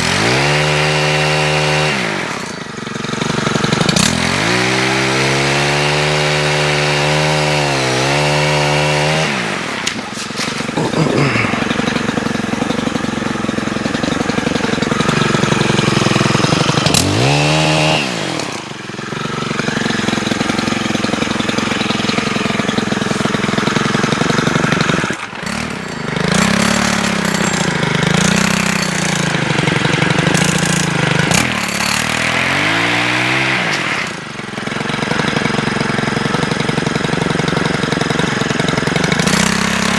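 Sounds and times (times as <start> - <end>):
pole saw engine revving: 0.0 - 39.9.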